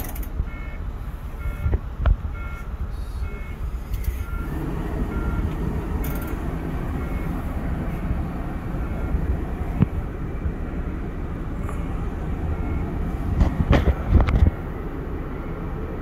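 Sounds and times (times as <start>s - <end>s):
air conditioning blowers rushing: 0.0s - 16.0s
bus engine idling: 0.0s - 16.0s.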